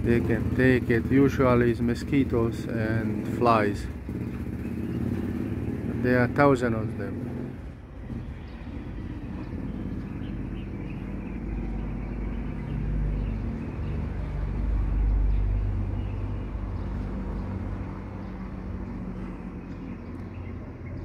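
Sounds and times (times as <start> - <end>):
passing vehicle engine rumble: 0.0 - 21.0.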